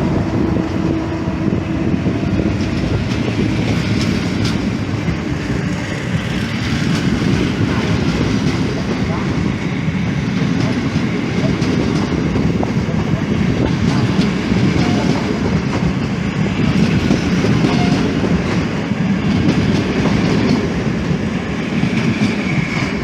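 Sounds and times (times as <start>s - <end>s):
train rumbling on track: 0.0s - 23.0s
train wheels clicking: 0.0s - 23.0s.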